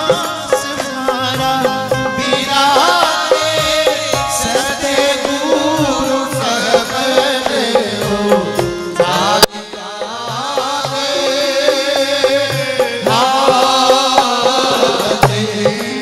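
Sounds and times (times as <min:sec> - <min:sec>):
harmonium: 0:00.0 - 0:16.0
percussion beat: 0:00.0 - 0:16.0
person singing: 0:00.0 - 0:16.0.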